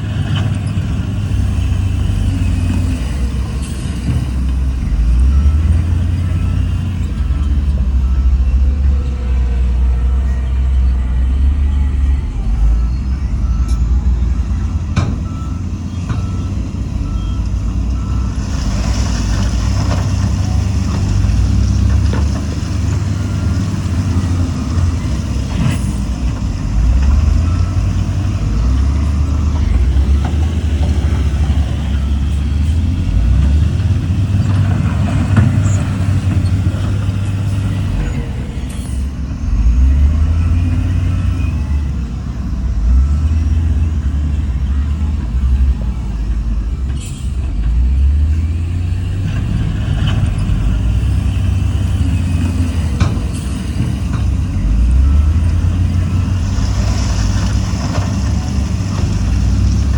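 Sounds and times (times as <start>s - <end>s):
heavy diesel machines rumbling: 0.0s - 59.9s
reversing alarm beeping: 0.1s - 59.9s.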